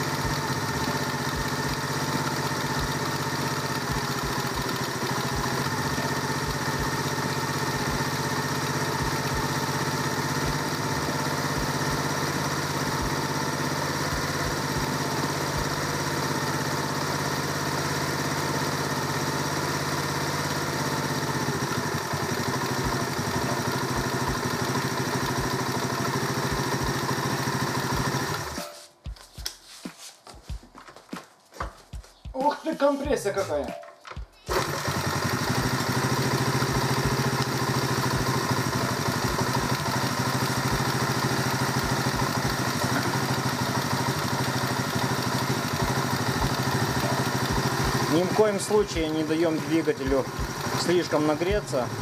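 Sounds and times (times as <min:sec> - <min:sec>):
moped engine idling: 0:00.0 - 0:28.9, 0:34.2 - 0:52.0.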